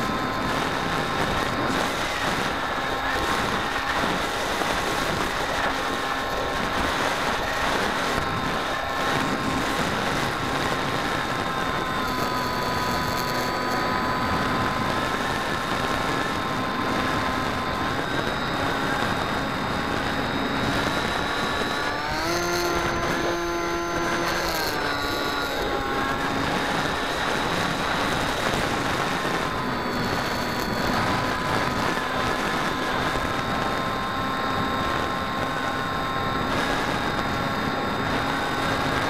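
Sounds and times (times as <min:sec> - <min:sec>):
electric propeller motor whining: 0:00.0 - 0:39.0
wind noise: 0:00.0 - 0:39.0.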